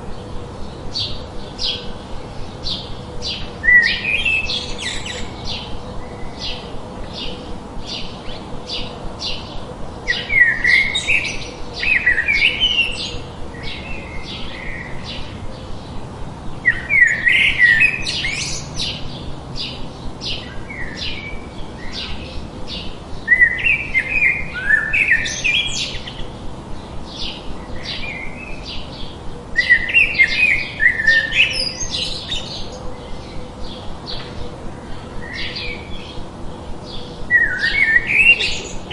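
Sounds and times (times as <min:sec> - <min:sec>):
low hiss of white noise: 0:00.0 - 0:38.9
songbirds singing: 0:00.0 - 0:38.9.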